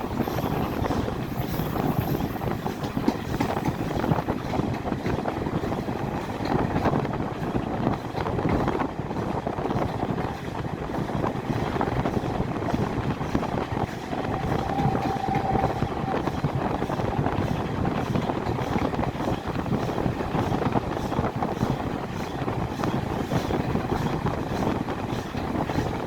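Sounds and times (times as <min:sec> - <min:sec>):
train wheels rumbling: 0:00.0 - 0:26.0
wind noise: 0:00.0 - 0:26.0.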